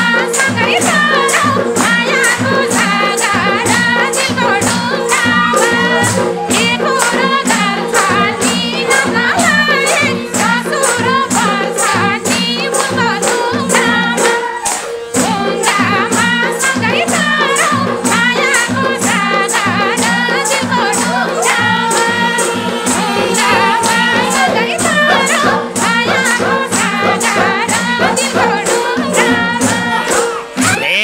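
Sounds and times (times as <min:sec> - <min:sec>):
quick percussion beat: 0:00.0 - 0:31.0
tambourine jingles: 0:00.0 - 0:31.0.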